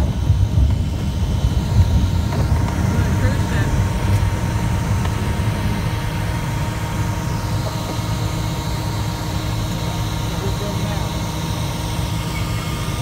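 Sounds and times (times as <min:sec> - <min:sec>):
faint steady whine: 0:00.0 - 0:13.0
propeller engine droning: 0:00.0 - 0:13.0.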